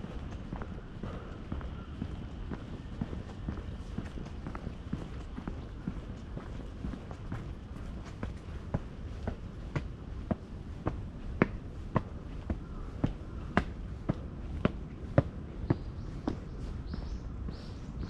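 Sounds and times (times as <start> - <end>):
footsteps on stone: 0.0 - 17.8.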